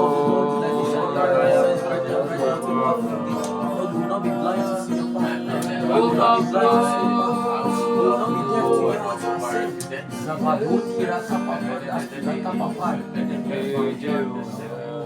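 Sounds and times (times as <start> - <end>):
guitar lines: 0.0 - 15.0
person singing: 0.0 - 15.0.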